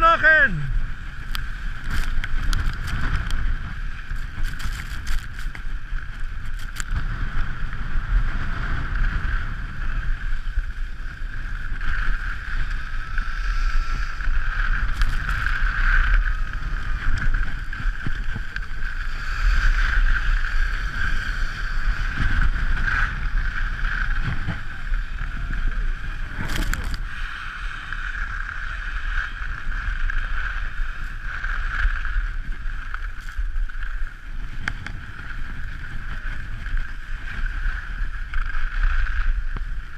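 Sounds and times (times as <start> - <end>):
skis sliding over snow: 0.0 - 39.9
wind rumble on microphone: 0.0 - 39.9.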